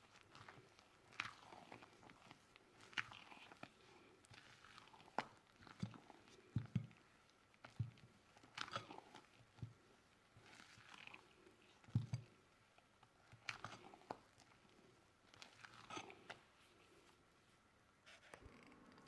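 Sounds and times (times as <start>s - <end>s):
spatula folding batter: 0.0s - 18.4s.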